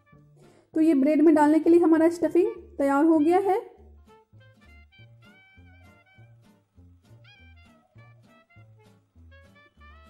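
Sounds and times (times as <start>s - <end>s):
faint jazzy instrumental music: 0.0s - 10.0s.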